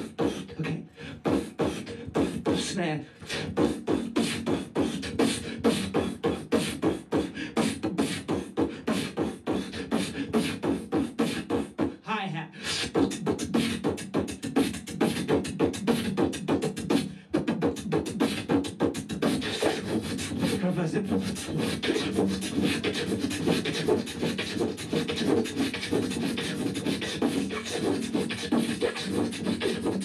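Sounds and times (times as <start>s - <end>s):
beatboxing through a microphone: 0.0s - 30.0s
wavering pitched vocal sound: 0.0s - 30.0s.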